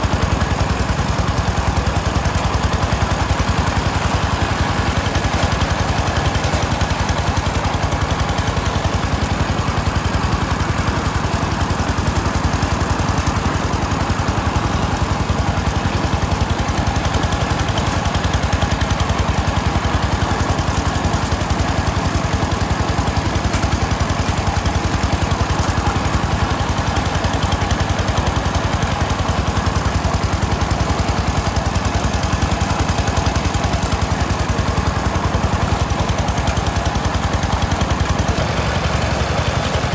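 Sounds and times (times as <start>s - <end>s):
small engine chugging: 0.0s - 39.9s.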